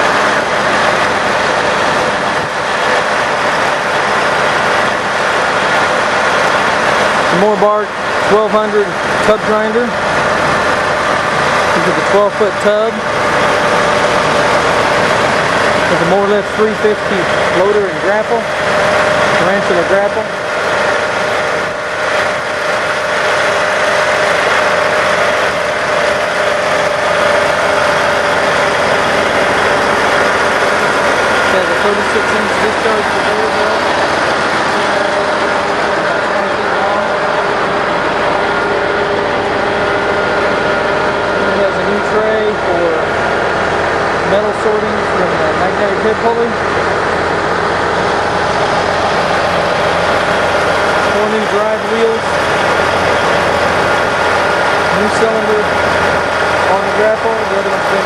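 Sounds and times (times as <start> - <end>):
diesel engine running: 0.0 - 58.0
steady whine: 0.0 - 58.0.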